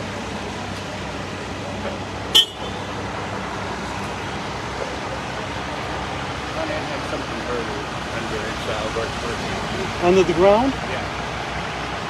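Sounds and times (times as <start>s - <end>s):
street traffic engines: 0.0s - 12.0s.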